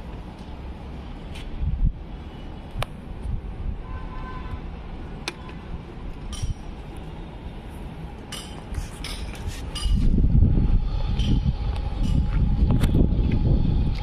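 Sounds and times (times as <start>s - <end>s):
steady low rumble: 0.0s - 3.9s, 4.6s - 14.0s.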